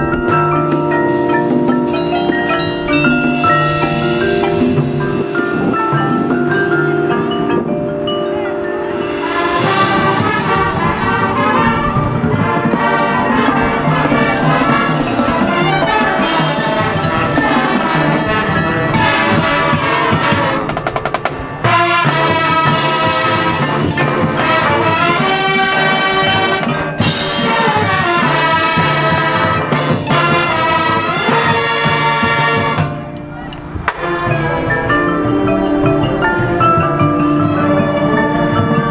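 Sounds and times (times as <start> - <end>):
marching band brass: 0.0 - 8.0, 8.8 - 38.9
percussion: 0.0 - 38.9.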